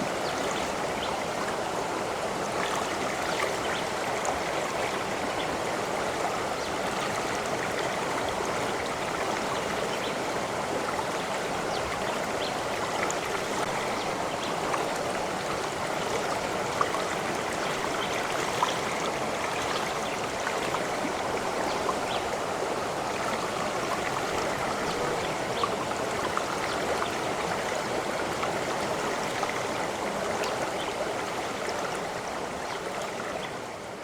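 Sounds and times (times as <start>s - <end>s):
stream babbling: 0.0s - 34.0s.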